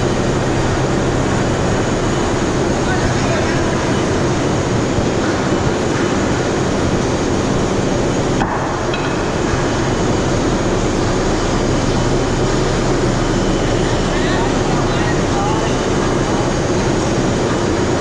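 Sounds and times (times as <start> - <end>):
industrial hall noise: 0.0 - 18.0
overhead crane humming: 0.0 - 18.0.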